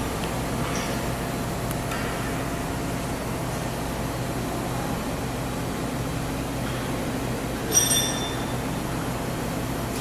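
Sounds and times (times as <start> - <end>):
boring mill humming and whirring: 0.0 - 10.0.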